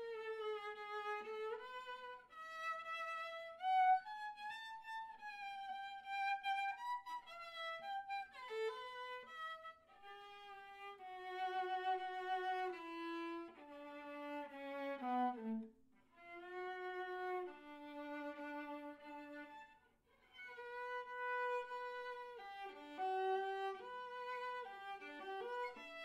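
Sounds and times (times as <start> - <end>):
bowed violin melody: 0.0 - 26.0.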